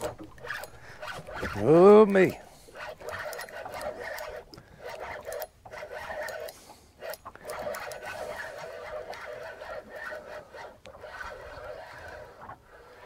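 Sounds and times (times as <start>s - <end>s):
fishing reel whirring: 0.0s - 13.0s
reel clicks: 0.0s - 13.0s.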